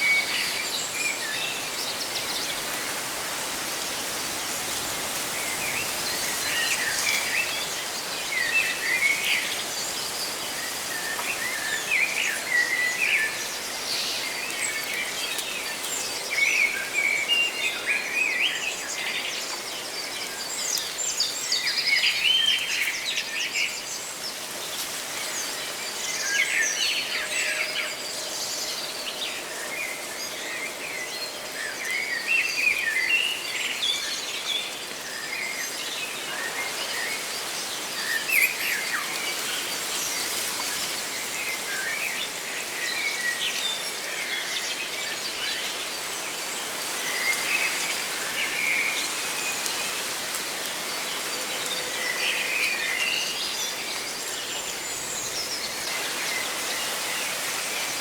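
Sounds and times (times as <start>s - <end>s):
leaves rustling: 0.0s - 58.0s
songbirds chirping: 0.0s - 58.0s.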